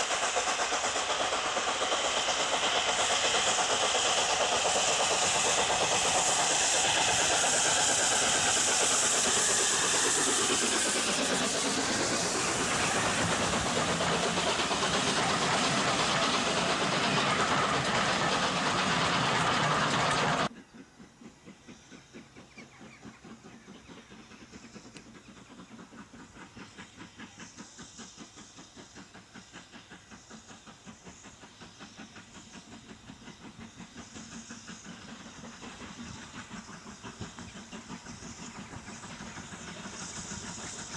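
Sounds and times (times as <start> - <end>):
distant steam train exhaust beats: 0.0 - 40.9
steam locomotive hissing: 0.0 - 40.9
train running: 0.0 - 40.9.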